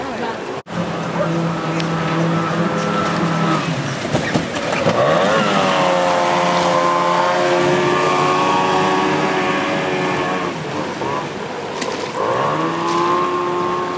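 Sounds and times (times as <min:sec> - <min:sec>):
rushing water: 0:00.0 - 0:13.9
outboard engine running hard: 0:00.3 - 0:13.9.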